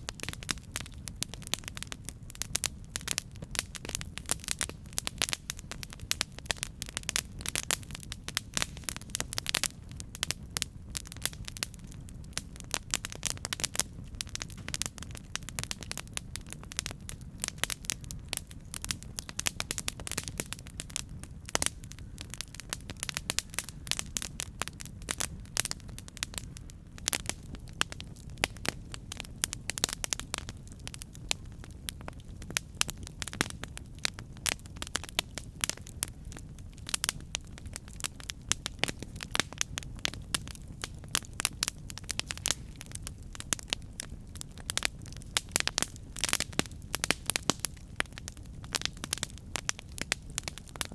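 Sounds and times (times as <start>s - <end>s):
campfire crackling: 0.0s - 50.9s.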